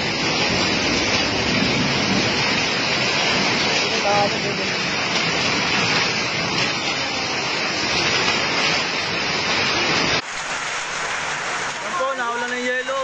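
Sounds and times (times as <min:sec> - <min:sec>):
hail and heavy rain: 0:00.0 - 0:13.0
soft rain: 0:00.0 - 0:13.0.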